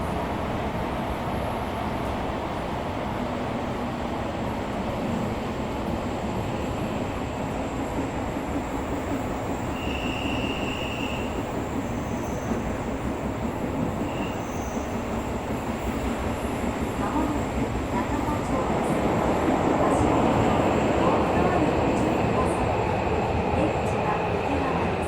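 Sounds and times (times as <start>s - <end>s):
subway train wheels and motors rumbling: 0.0s - 25.0s.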